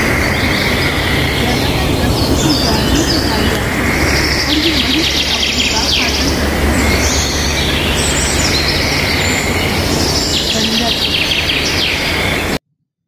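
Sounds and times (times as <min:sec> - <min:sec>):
birds chirping and whistling: 0:00.0 - 0:12.6
fast trilling birdsong: 0:00.0 - 0:12.6
steady background noise: 0:00.0 - 0:12.6.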